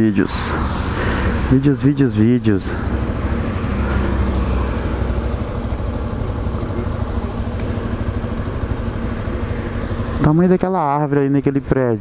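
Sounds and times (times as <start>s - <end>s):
motorcycle engine running steadily: 0.6s - 12.0s.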